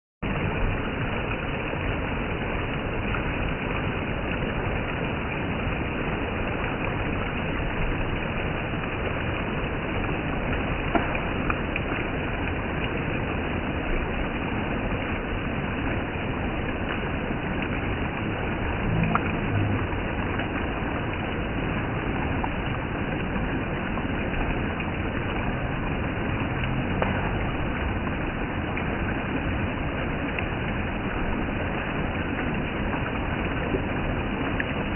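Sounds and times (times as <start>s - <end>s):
flowing water rushing: 0.2s - 34.9s.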